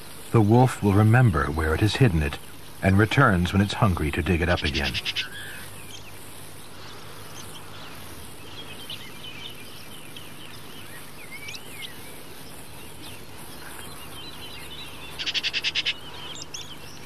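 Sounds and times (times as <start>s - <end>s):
birds chirping and warbling: 0.0s - 17.0s
loud rapid bird notes: 0.0s - 17.0s
steady low hum: 0.0s - 17.0s.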